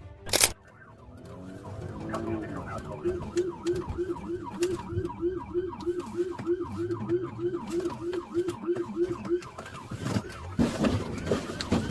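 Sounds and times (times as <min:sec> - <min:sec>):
police siren yelping: 0:00.3 - 0:11.9
low vehicle rumble: 0:00.6 - 0:11.9.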